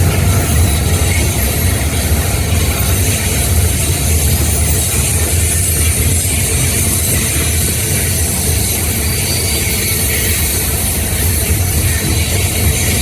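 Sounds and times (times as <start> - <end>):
freight train rumbling past: 0.0 - 13.0
train cars rattling: 0.0 - 13.0.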